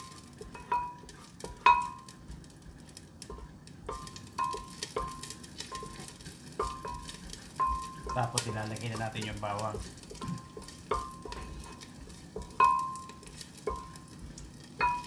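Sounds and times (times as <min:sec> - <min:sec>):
wooden spoon knocking on pot: 0:00.0 - 0:02.1, 0:03.3 - 0:14.0, 0:14.8 - 0:15.0
onions sizzling in oil: 0:00.0 - 0:15.0.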